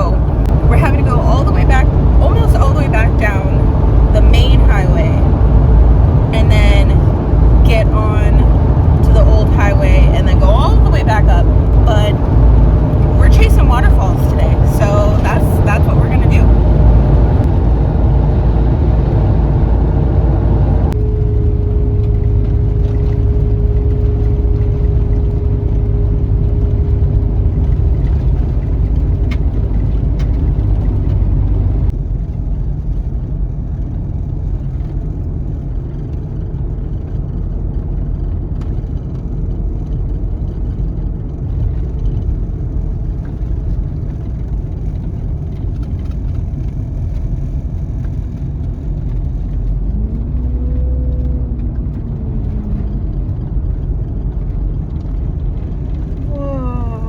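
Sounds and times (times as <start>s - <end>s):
van road rumble: 0.0s - 57.0s.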